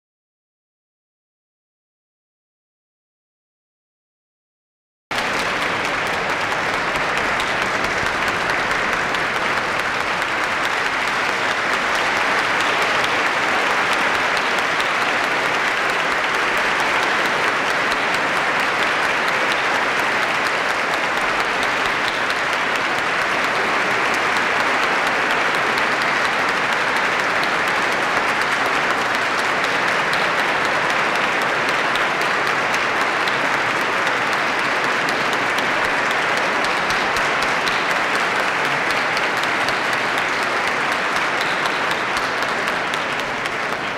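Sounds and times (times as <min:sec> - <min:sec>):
large audience applauding: 0:05.1 - 0:43.9.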